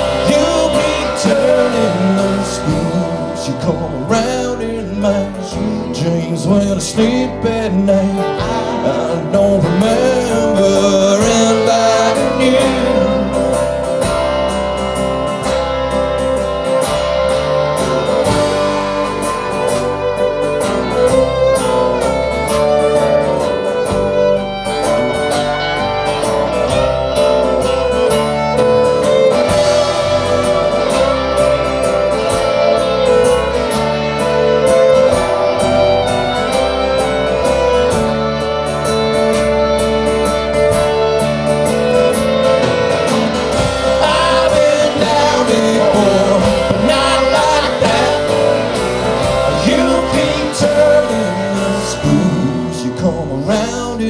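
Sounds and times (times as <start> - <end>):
acoustic guitar: 0.0 - 54.0
fiddle lead: 0.0 - 54.0
low bass line: 0.0 - 54.0.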